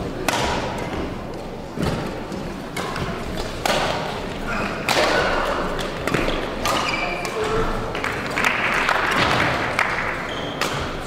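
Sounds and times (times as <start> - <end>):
rackets hitting shuttlecock: 0.2 - 11.0.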